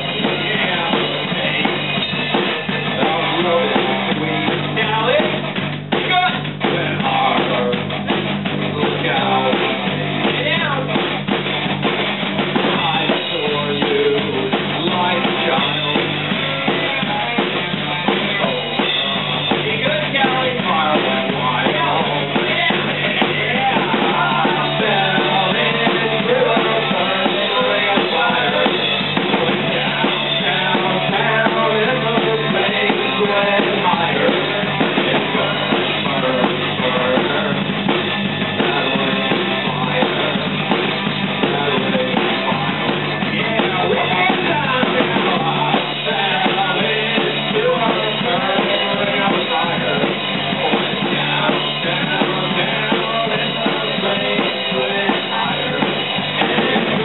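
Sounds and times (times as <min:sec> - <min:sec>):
person singing into microphone: 0:00.0 - 0:11.3, 0:12.6 - 0:57.0
amplified guitar: 0:00.0 - 0:57.0
drum kit with cymbals: 0:00.0 - 0:57.0.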